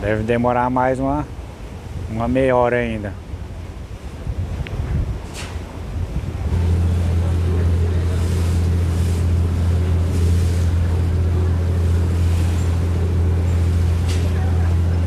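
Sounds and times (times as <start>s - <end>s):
boat engine drone: 0.0s - 15.0s
wind and water hiss: 0.0s - 15.0s.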